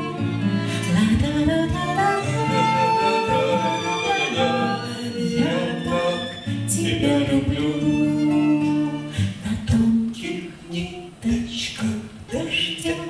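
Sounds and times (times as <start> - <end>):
nylon-string acoustic guitar: 0.0 - 13.0
people singing in harmony: 0.0 - 13.0.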